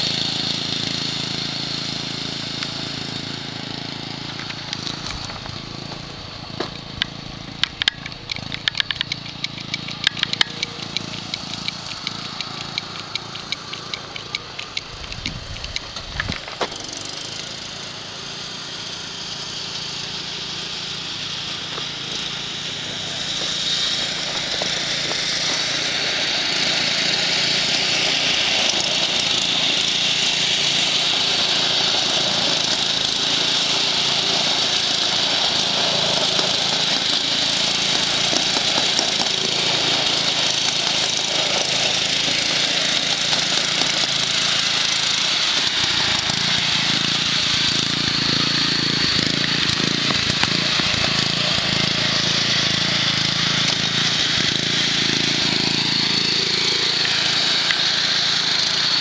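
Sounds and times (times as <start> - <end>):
lawn tractor engine droning: 0.0 - 59.0.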